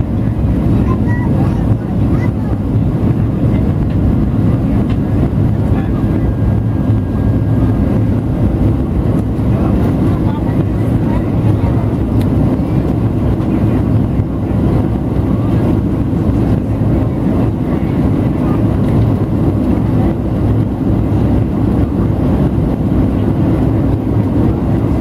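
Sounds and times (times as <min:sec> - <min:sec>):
airliner cabin low rumble: 0:00.0 - 0:25.0.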